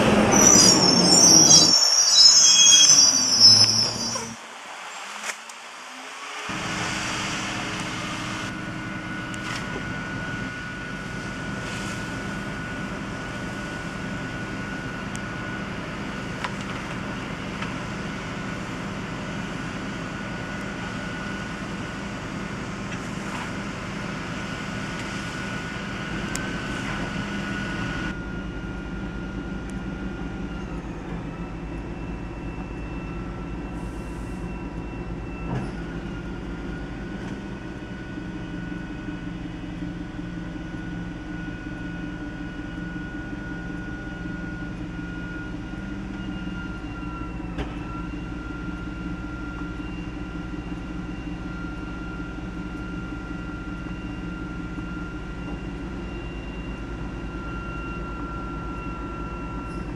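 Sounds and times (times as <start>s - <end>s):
garbage truck engine hum: 0.0s - 4.4s, 6.5s - 59.9s
steady high whine: 0.0s - 59.9s.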